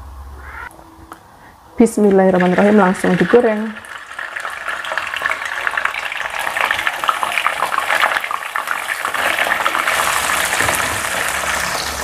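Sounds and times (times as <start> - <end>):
fish sizzling in hot oil: 2.4 - 12.0.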